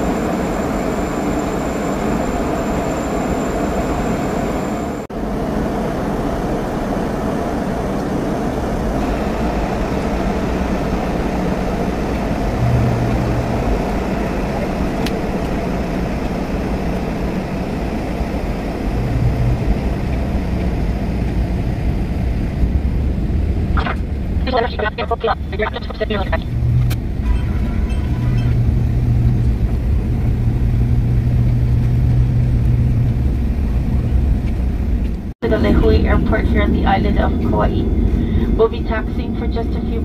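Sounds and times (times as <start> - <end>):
jet engines humming: 0.0 - 40.0
rushing airflow in plane cabin: 0.0 - 40.0.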